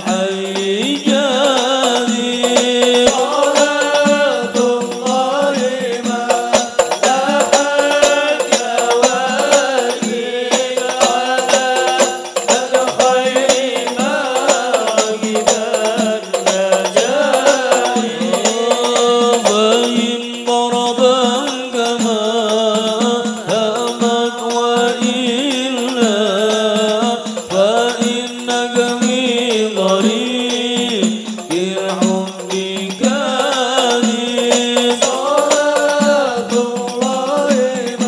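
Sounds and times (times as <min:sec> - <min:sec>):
men chanting in unison: 0:00.0 - 0:38.0
sharp percussive taps: 0:00.0 - 0:38.0.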